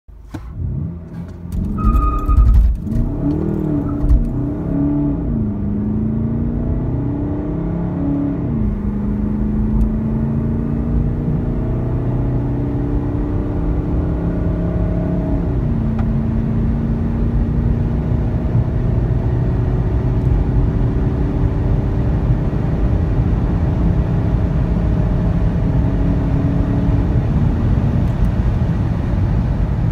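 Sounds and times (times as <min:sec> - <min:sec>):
diesel engine accelerating hard: 0:00.5 - 0:29.9.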